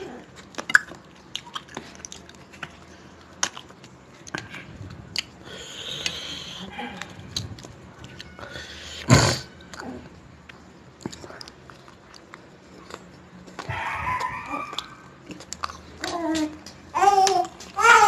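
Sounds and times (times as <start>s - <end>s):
person chewing: 0.0s - 17.8s.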